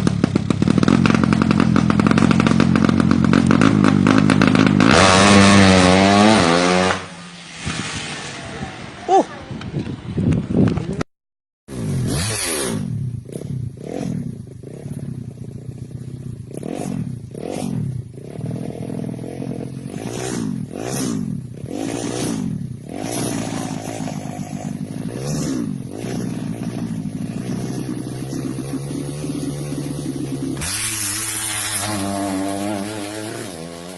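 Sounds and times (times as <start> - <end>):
engine revving: 0.0 - 9.2, 11.7 - 33.9.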